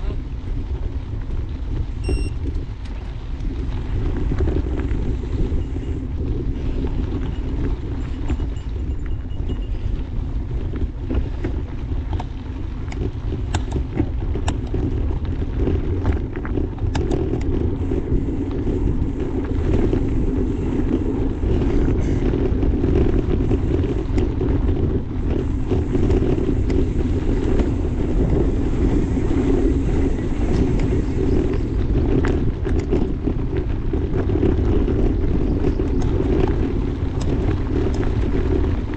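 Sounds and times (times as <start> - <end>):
bike tyres rumbling on dirt: 0.0 - 38.9
wind on microphone: 0.0 - 38.9.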